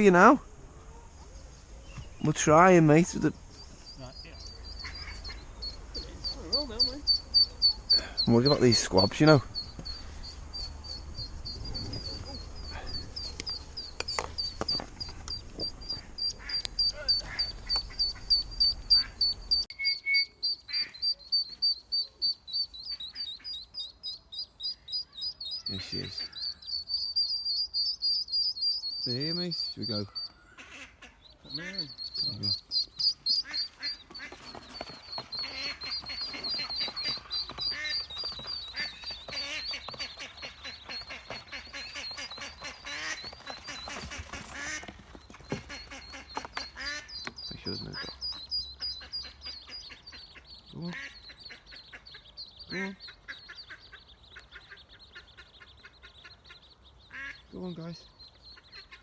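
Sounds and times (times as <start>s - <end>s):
ducklings peeping: 1.2s - 59.0s
lower duckling calls: 2.5s - 59.0s.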